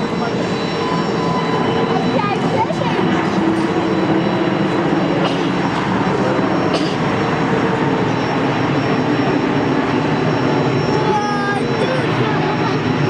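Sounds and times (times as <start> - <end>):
faint high whine: 0.0 - 13.0
jet engines rumbling: 0.0 - 13.0.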